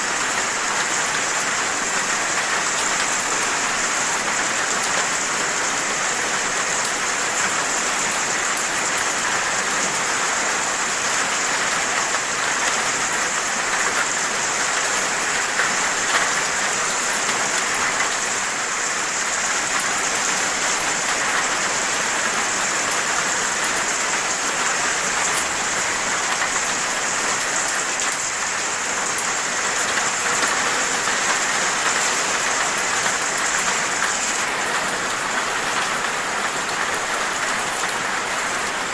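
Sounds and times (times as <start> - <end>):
raindrops pattering on a surface: 0.0 - 38.9
steady rain: 0.0 - 38.9.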